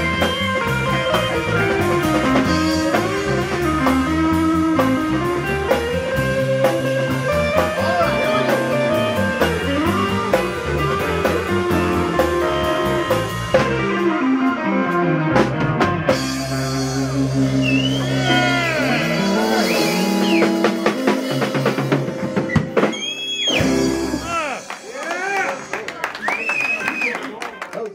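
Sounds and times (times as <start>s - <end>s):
bending lead guitar notes: 0.0s - 25.8s
live rock band playing: 0.0s - 26.3s.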